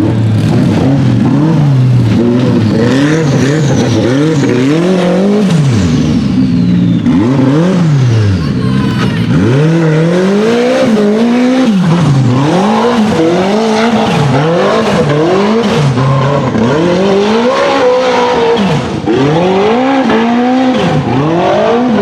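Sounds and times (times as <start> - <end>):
buggy engine revving hard: 0.0 - 22.0.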